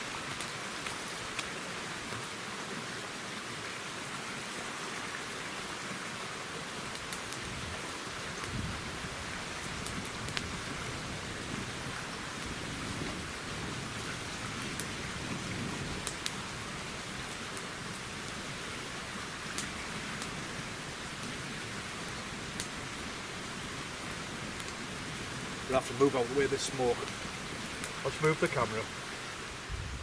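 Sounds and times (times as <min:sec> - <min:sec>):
campfire crackling and popping: 0:00.0 - 0:03.0, 0:04.6 - 0:30.0.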